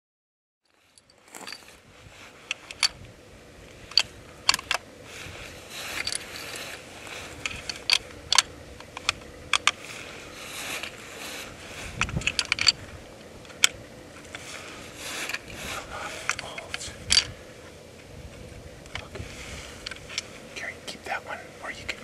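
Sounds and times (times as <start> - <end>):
faint steady hiss: 0.7 - 22.0.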